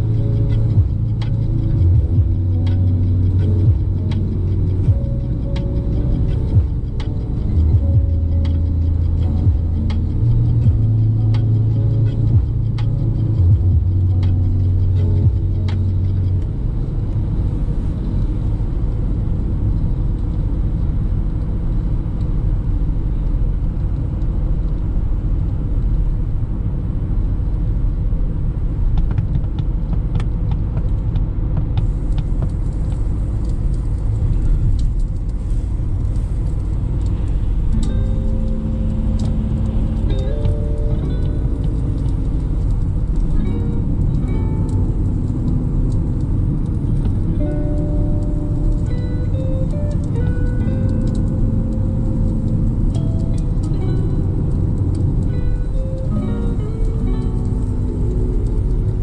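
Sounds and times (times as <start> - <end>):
van engine and tyre rumble: 0.0 - 59.0.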